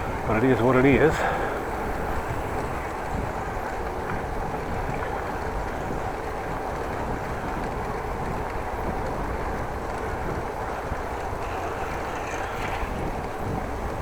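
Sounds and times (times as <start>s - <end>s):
bicycle riding noise: 0.0s - 14.0s
wind buffeting microphone: 0.0s - 14.0s.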